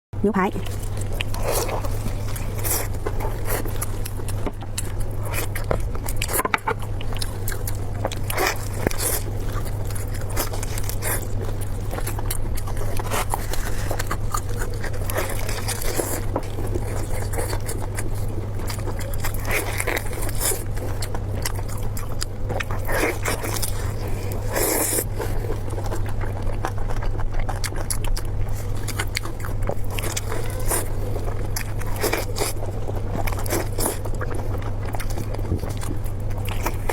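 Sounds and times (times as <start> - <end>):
steady low hum: 0.2 - 36.9
wet bites and chewing: 0.6 - 36.9.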